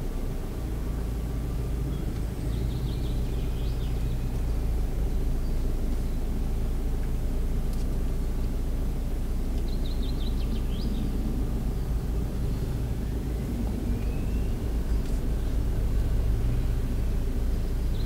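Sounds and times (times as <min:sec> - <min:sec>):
car engine rumble from cabin: 0:00.0 - 0:18.0.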